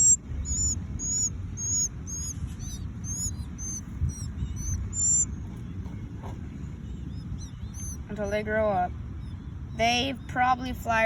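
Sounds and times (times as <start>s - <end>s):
baby birds begging chirps: 0.0s - 11.0s.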